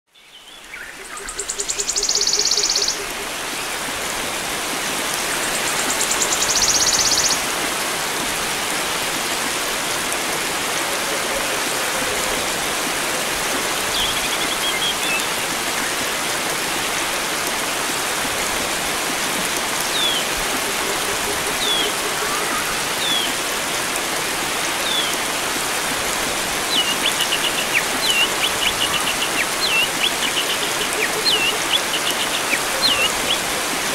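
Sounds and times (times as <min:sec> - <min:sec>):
water flowing: 0:00.5 - 0:33.9.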